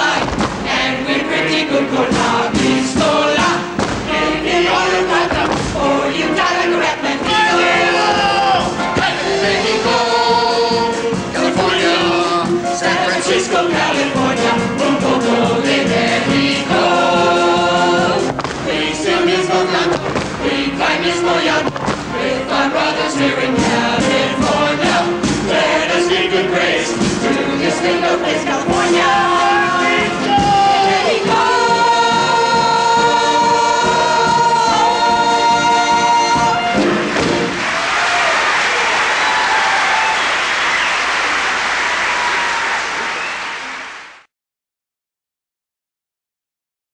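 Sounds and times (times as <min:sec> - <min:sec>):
chorus singing: 0:00.0 - 0:44.0
musical accompaniment: 0:00.0 - 0:44.3.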